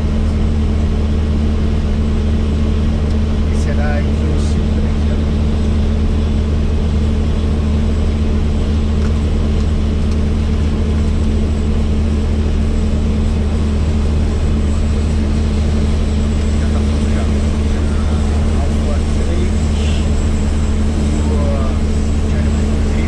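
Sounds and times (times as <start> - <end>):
helicopter rotor drone: 0.0 - 23.0.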